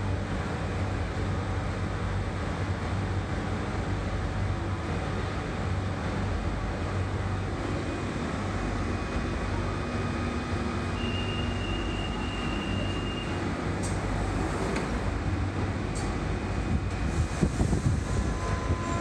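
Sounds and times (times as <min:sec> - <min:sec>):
train equipment hum and rumble: 0:00.0 - 0:19.0.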